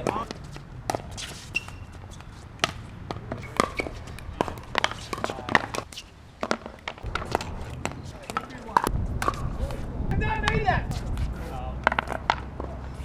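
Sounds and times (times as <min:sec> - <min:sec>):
ball bouncing on court: 0:00.0 - 0:09.8, 0:10.4 - 0:13.0
footsteps: 0:00.0 - 0:13.0.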